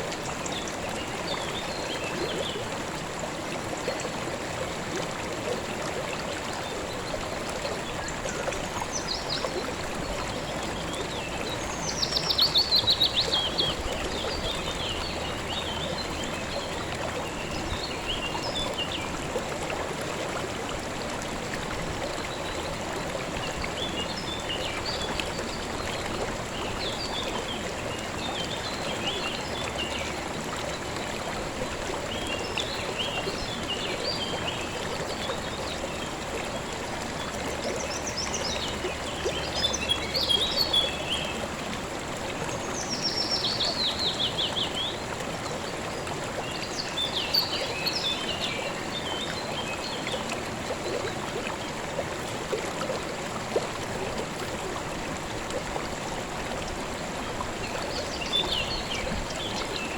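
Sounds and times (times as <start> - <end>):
flowing stream water: 0.0 - 59.9.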